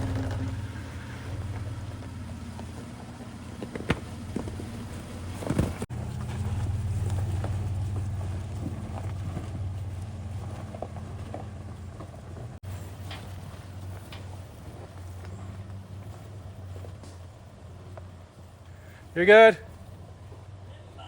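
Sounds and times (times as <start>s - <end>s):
knocks and clunks over rocks: 0.0s - 18.2s
truck engine and tyre rumble: 0.0s - 21.0s.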